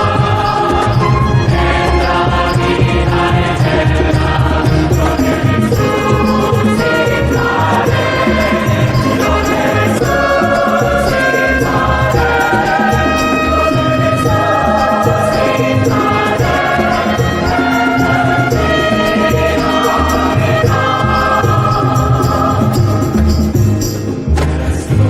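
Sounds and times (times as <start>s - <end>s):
choral church music: 0.0s - 25.0s.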